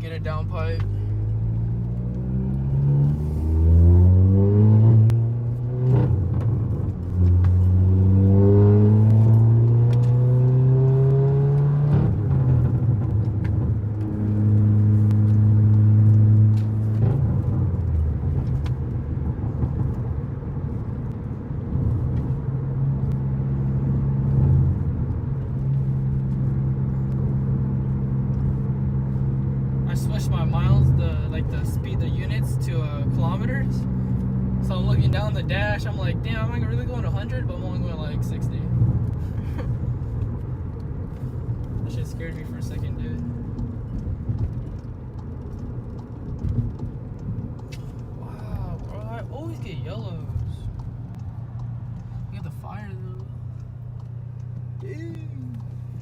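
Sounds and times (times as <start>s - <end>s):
car exhaust accelerating: 0.0s - 56.0s.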